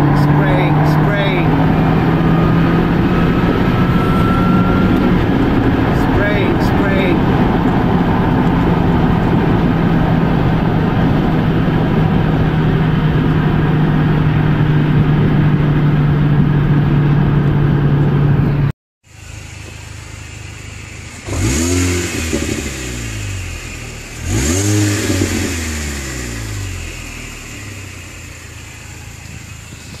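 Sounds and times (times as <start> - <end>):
engine revving: 0.0 - 18.7, 19.4 - 30.0
car engine and road noise: 0.0 - 30.0.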